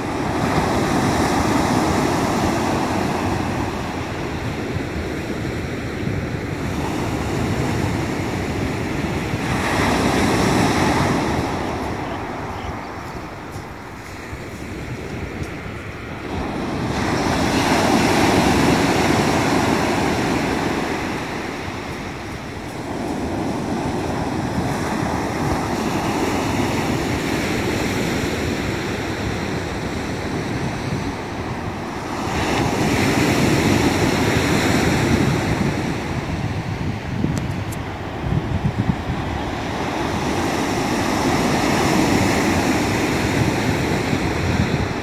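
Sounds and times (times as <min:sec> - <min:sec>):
sea surf on pebble beach: 0:00.0 - 0:45.0.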